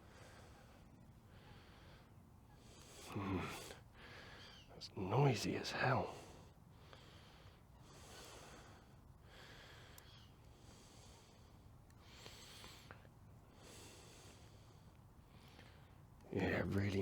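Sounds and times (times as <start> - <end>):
slow breathing close to microphone: 0.0 - 4.7, 6.1 - 16.1.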